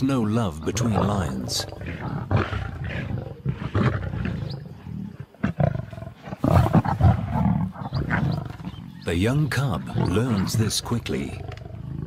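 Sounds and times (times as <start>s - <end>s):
lions growling and snarling: 0.0s - 12.0s.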